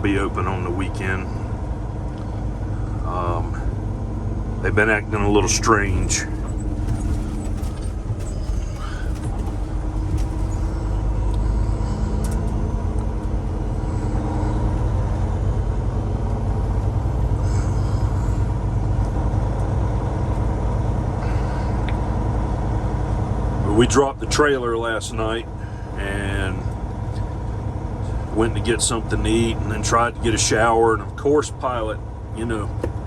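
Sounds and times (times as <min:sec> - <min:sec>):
diesel engine hum inside cab: 0:00.0 - 0:33.0
road noise: 0:00.0 - 0:33.0.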